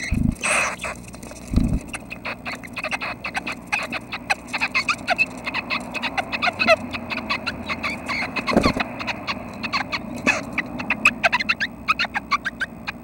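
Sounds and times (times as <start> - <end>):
nestlings chirping: 0.0 - 13.0.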